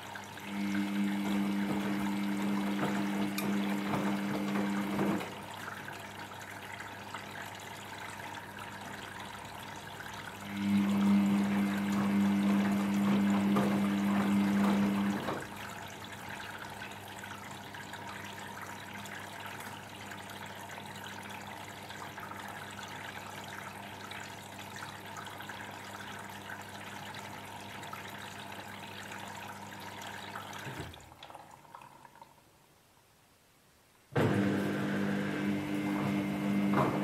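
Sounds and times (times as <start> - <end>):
washing machine hum: 0.0 - 32.3, 34.1 - 37.0
water trickling inside machine: 0.0 - 32.5, 34.3 - 37.0.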